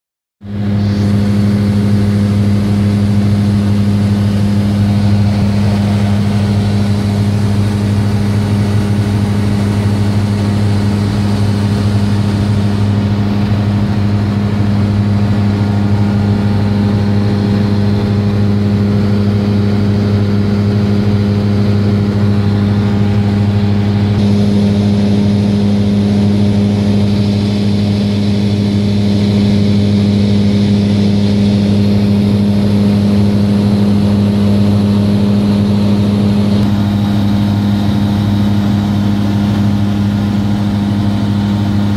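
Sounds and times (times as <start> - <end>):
airplane engine droning: 0.4 - 41.9.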